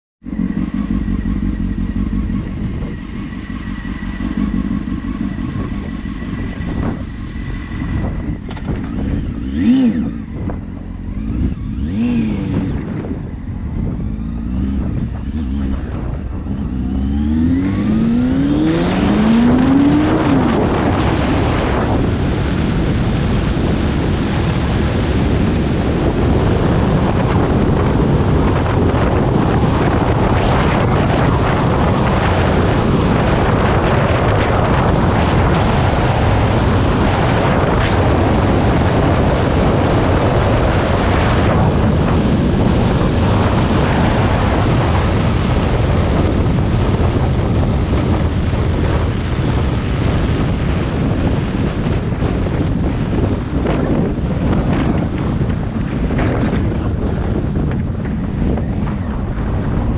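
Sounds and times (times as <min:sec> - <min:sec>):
motorcycle engine accelerating: 0:00.2 - 0:59.9
wind on microphone: 0:00.2 - 0:59.9.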